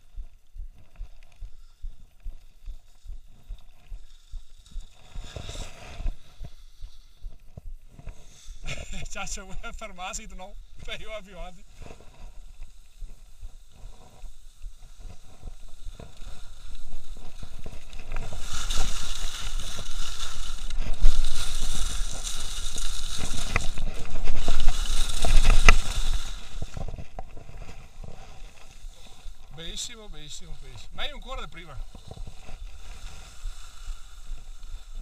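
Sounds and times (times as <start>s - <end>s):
skis scraping over snow: 2.8s - 7.2s, 7.9s - 35.0s.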